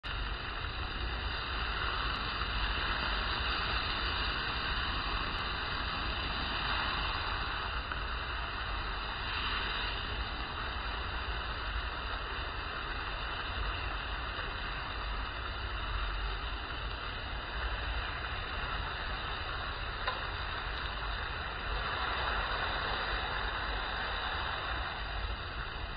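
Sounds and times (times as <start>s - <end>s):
flames rushing: 0.0s - 25.9s.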